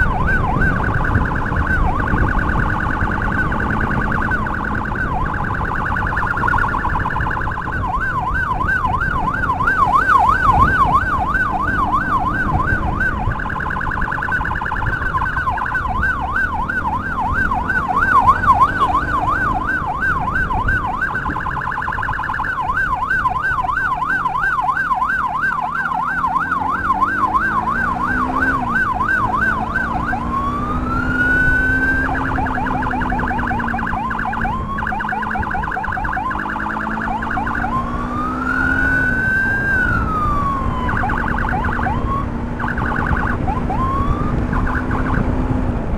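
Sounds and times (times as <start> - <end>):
emergency siren yelping: 0.0 - 45.9
motorcycle engine revving: 0.0 - 45.9.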